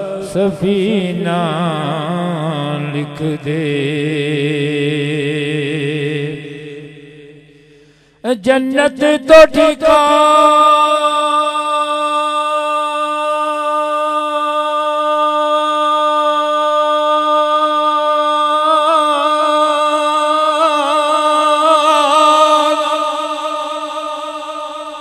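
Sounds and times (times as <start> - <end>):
man singing unaccompanied: 0.0 - 7.4, 8.2 - 25.0.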